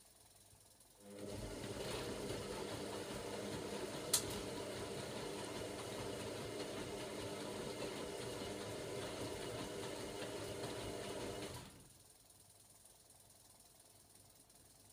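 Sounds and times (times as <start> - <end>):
washing machine motor running: 0.8 - 14.9.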